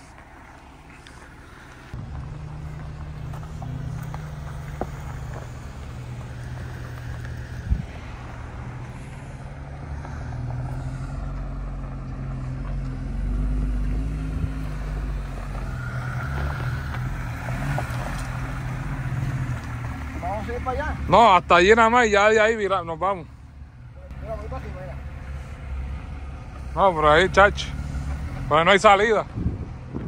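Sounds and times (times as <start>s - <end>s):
vehicle engine driving on dirt track: 0.0s - 30.0s.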